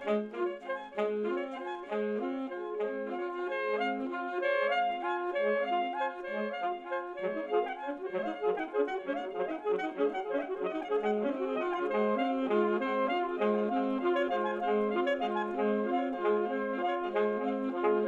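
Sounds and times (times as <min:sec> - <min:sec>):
saxophone with delay effect: 0:00.0 - 0:18.0.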